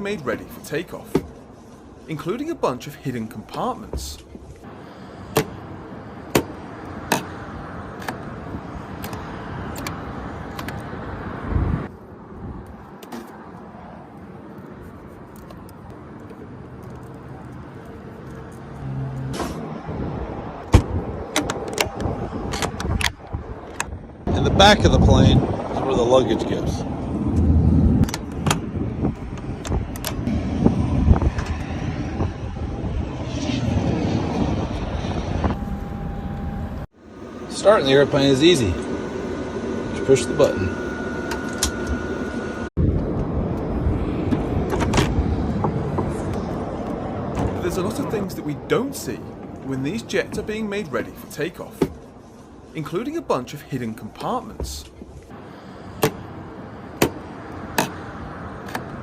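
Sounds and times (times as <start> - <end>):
aircraft low rumble: 0.0 - 59.0.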